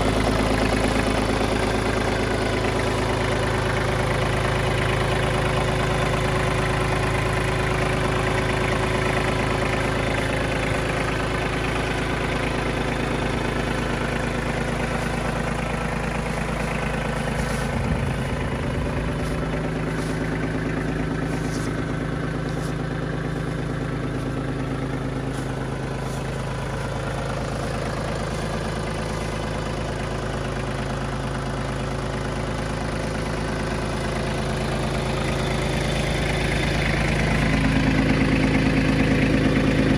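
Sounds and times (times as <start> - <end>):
diesel tractor engine idling: 0.0 - 39.9.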